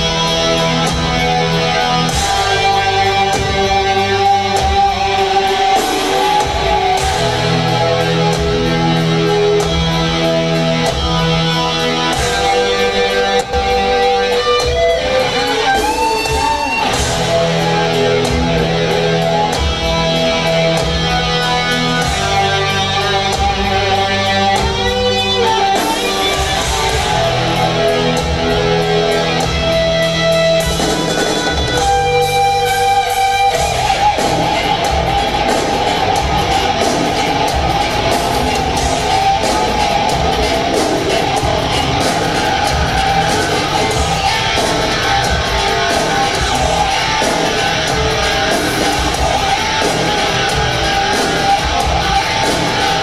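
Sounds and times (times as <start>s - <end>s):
distorted electric guitar: 0.0s - 53.0s
rock band playing live: 0.0s - 53.0s.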